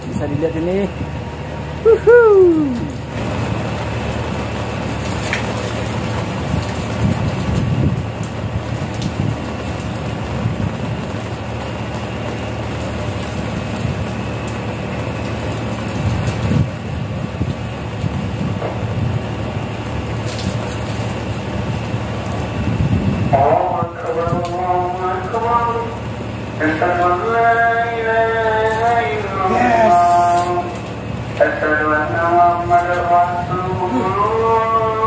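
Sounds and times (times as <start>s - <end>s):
boat motor humming: 0.0s - 35.0s.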